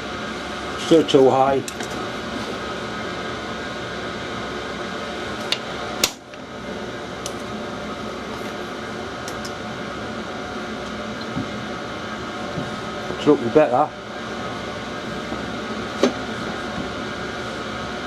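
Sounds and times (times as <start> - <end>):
machine or fan humming: 0.0 - 18.0.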